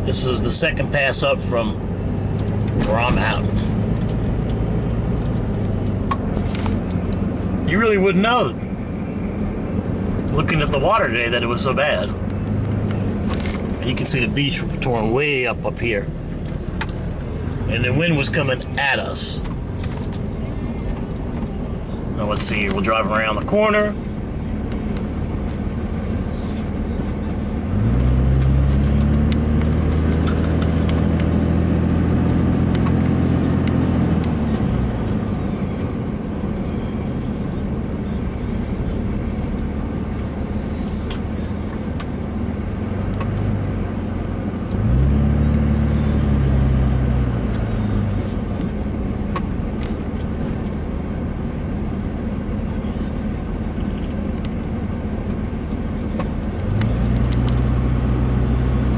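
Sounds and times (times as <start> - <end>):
car engine inside cabin: 0.0 - 58.9
road noise: 0.0 - 58.9.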